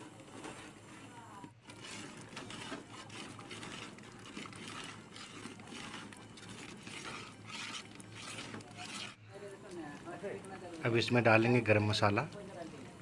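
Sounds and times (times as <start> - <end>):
metal spatula scraping pot: 0.0 - 12.2.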